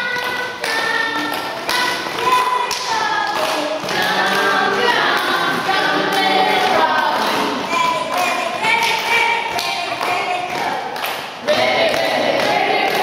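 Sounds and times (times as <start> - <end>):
boys singing together: 0.0 - 13.0
hand claps: 0.0 - 13.0.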